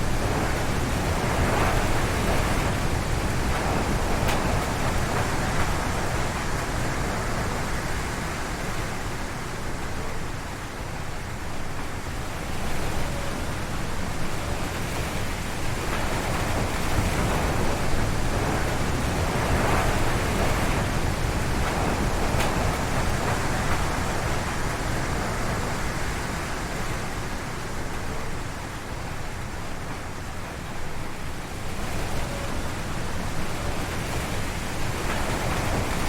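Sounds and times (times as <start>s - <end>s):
strong wind gusting through trees: 0.0s - 36.0s
wind rumble on microphone: 0.0s - 36.0s.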